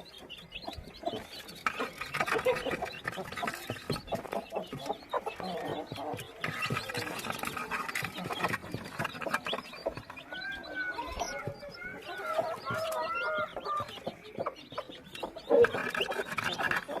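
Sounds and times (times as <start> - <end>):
chicks peeping: 0.0 - 17.0
hen clucking: 0.0 - 17.0.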